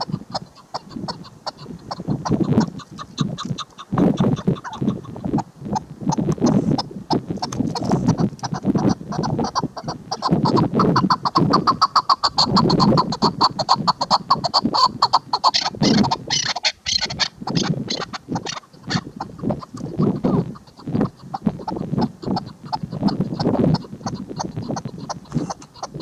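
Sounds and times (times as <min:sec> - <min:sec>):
partridge clucking calls: 0:00.0 - 0:26.0.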